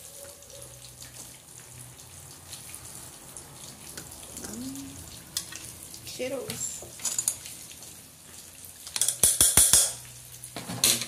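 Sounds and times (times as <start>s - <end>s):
liquid pouring and splashing: 0.0s - 10.7s.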